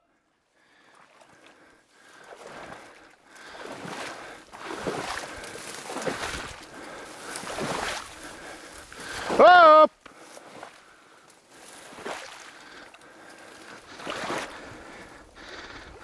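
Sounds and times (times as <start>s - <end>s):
footsteps wading through marsh water: 0.4s - 16.0s.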